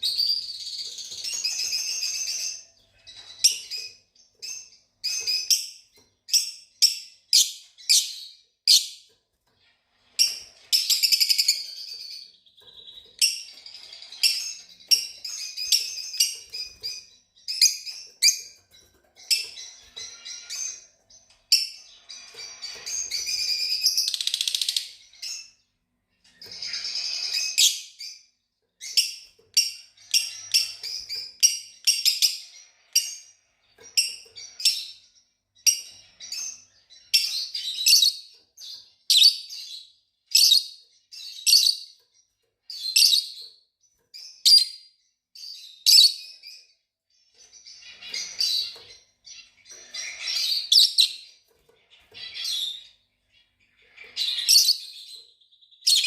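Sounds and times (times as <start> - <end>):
lovebirds chirping and chattering: 0.0 - 56.0.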